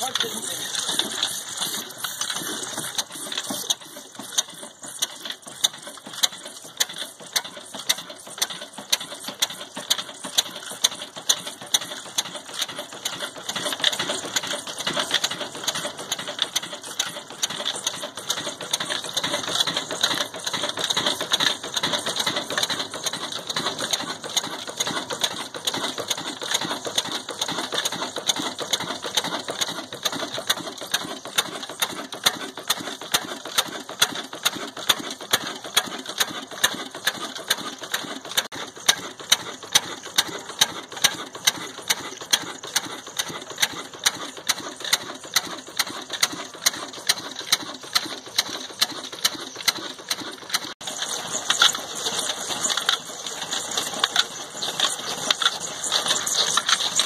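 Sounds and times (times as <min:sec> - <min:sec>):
diesel engine clattering: 0:00.0 - 0:57.0
engine knocking: 0:00.0 - 0:57.0.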